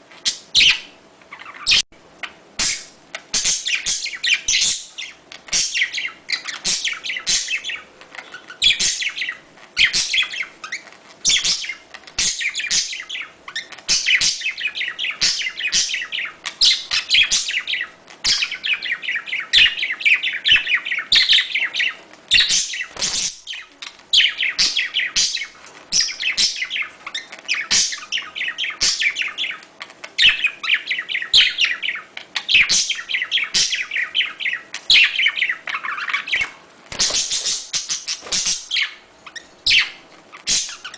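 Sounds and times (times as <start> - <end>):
budgerigars chirping and warbling: 0.2 - 40.9.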